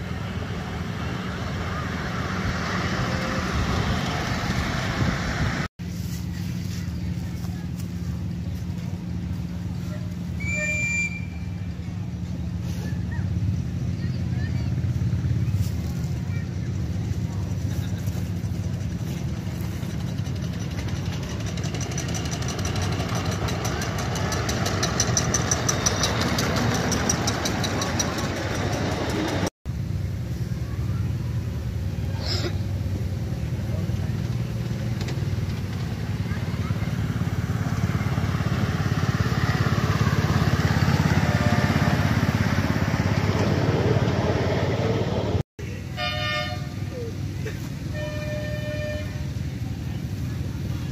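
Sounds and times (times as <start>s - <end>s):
steam locomotive chuffing: 8.2s - 50.9s.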